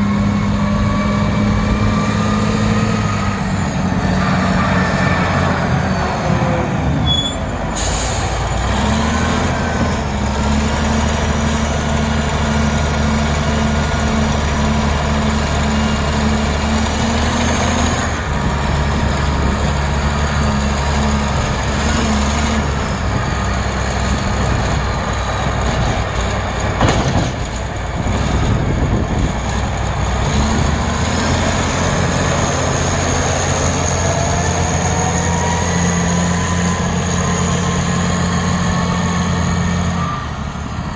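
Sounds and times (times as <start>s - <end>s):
loader diesel engine under load: 0.0s - 40.9s.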